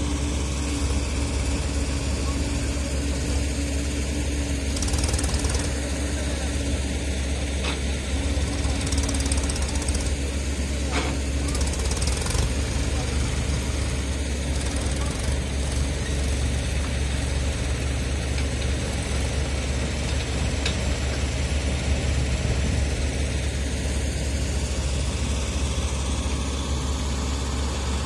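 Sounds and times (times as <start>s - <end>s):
tractor diesel engine droning: 0.0s - 28.0s.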